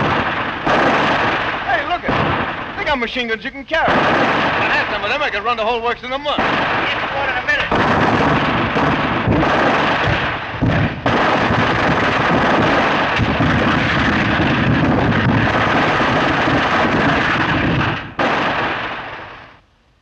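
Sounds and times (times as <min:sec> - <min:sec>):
submachine gun firing bursts: 0:00.0 - 0:02.8, 0:03.9 - 0:05.3, 0:06.4 - 0:19.3.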